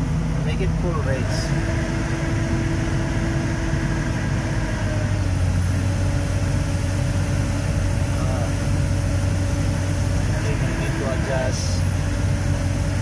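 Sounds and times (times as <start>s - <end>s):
deep hydraulic pump hum: 0.0s - 13.0s
diesel engine at full throttle: 0.0s - 13.0s.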